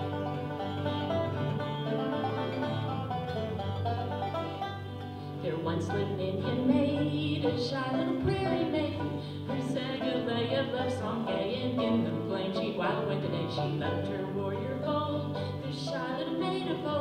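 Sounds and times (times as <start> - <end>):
acoustic guitar: 0.0 - 17.0
banjo picking: 0.0 - 17.0.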